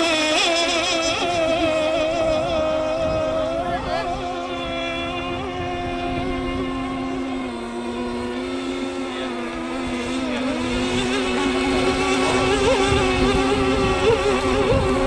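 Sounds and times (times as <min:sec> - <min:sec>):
model boat engine drone: 0:00.0 - 0:15.0.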